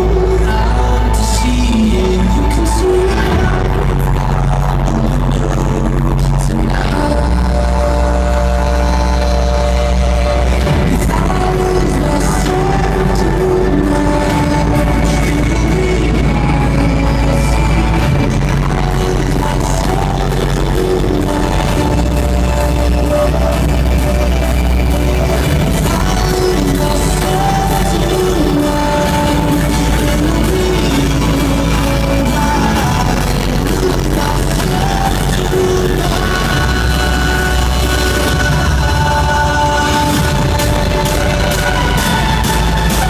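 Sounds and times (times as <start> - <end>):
loud live music: 0.0 - 43.0.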